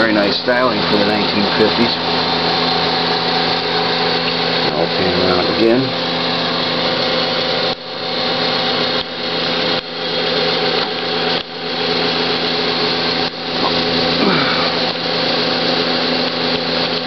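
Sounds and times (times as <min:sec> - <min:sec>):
electric motor hum: 0:00.0 - 0:17.0
exhaust fan air rush: 0:00.0 - 0:17.0.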